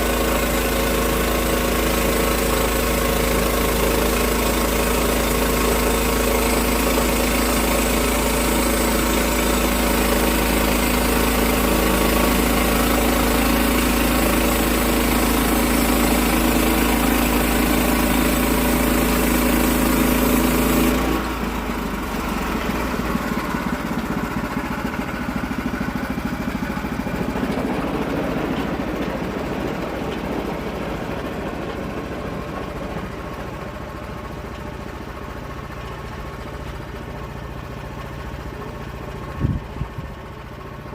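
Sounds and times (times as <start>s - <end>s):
sawmill gasoline engine running: 0.0s - 40.9s.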